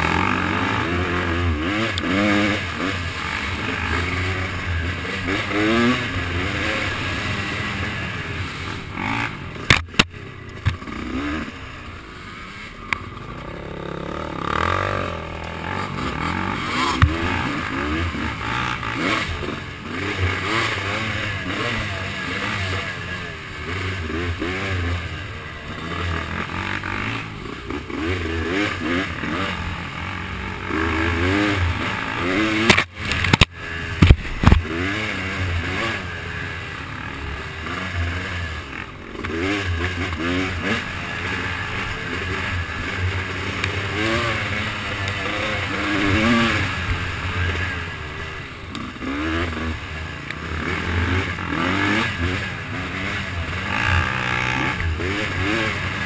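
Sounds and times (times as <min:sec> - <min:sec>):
off-road engine revving: 0:00.0 - 0:56.0.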